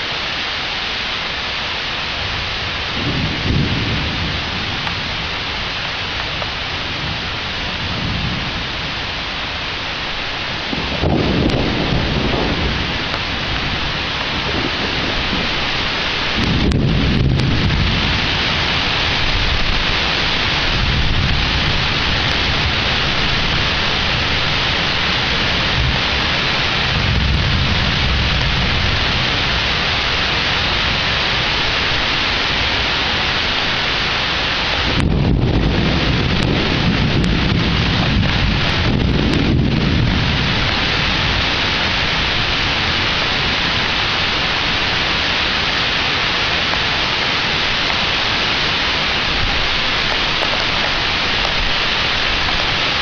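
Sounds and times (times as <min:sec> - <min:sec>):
heavy rain hissing: 0:00.0 - 0:53.0
thunder rumbling: 0:02.1 - 0:53.0.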